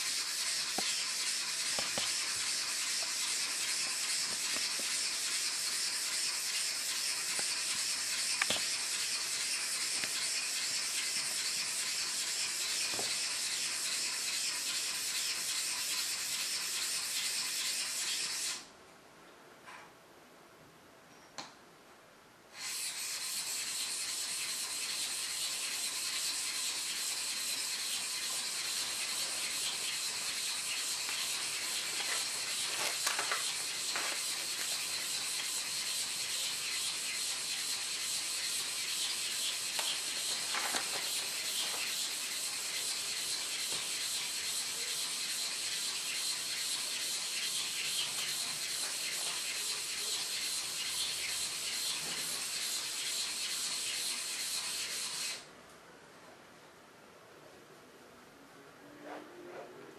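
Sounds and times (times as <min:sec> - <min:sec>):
steel scraping on whetstone: 0:00.0 - 0:18.6, 0:22.6 - 0:55.4.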